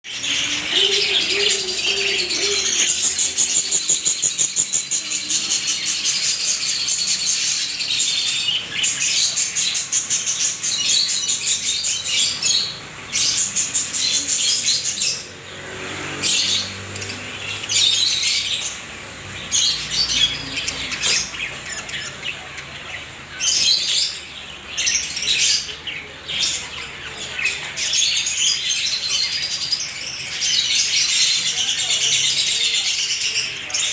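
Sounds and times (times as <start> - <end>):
budgerigars chattering and warbling: 0.1 - 33.9.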